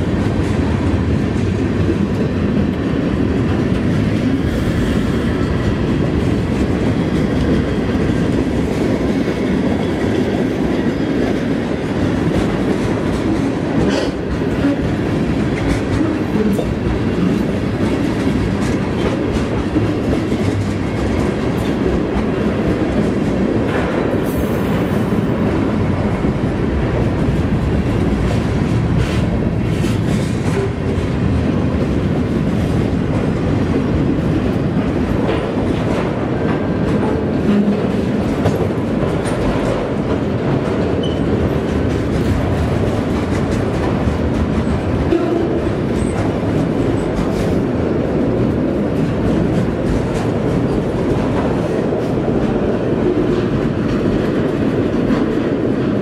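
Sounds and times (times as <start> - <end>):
clickety-clack over rail joints: 0.0 - 56.0
steel wheels rumbling on rail: 0.0 - 56.0.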